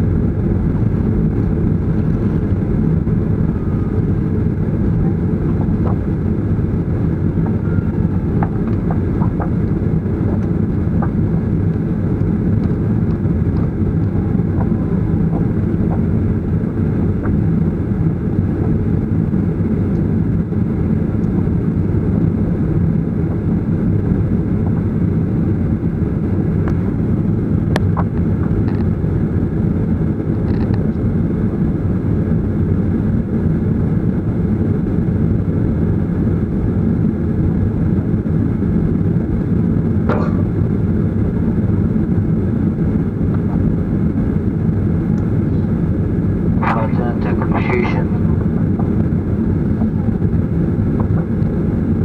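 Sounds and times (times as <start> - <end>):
jet engines low rumble: 0.0 - 52.0.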